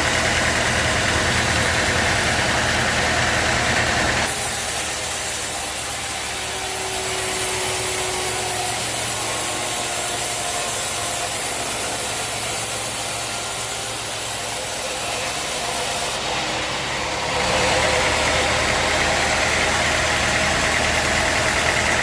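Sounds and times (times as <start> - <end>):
engine running: 0.0 - 22.0
sawmill machinery hissing: 0.0 - 22.0.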